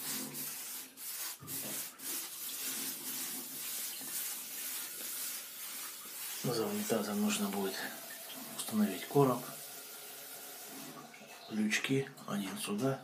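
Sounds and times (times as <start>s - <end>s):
paintbrush scrubbing rough wall: 0.0s - 11.0s.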